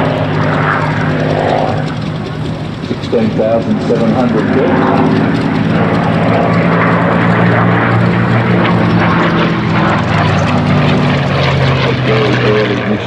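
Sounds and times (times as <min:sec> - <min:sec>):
propeller plane engine flying past: 0:00.0 - 0:13.0.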